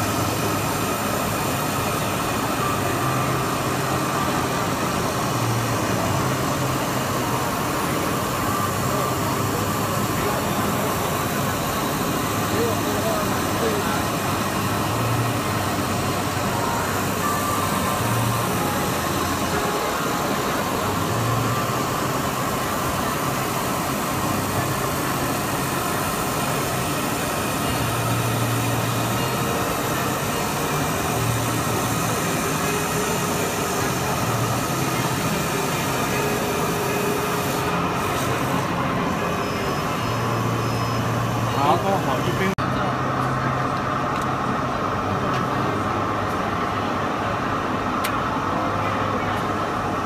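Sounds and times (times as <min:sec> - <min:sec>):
laser cutter hiss: 0:00.0 - 0:42.5.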